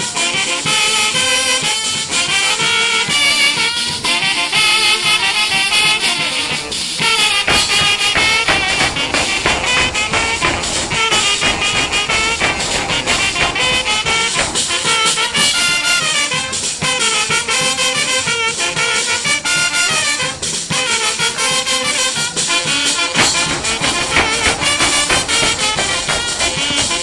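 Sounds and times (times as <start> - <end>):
brass band playing: 0.0 - 27.0.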